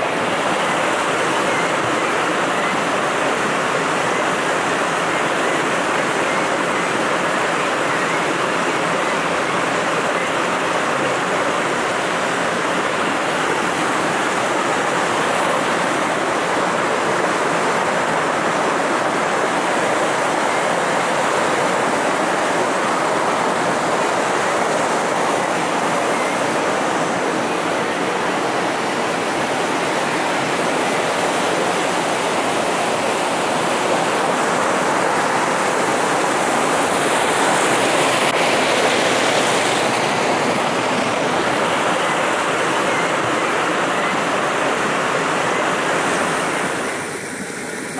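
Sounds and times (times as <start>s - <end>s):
small waterfall rushing: 0.0s - 47.9s.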